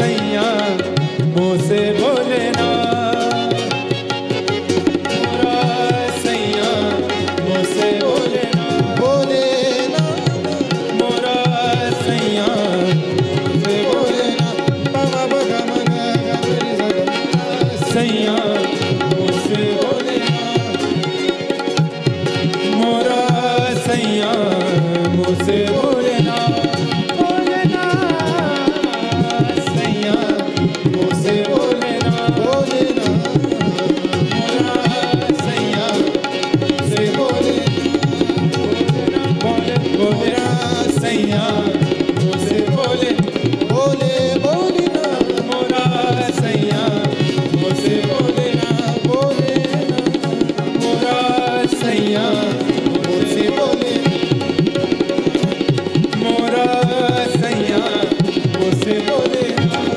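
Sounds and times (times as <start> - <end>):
harmonium and keyboard: 0.0 - 59.9
tabla playing: 0.0 - 59.9.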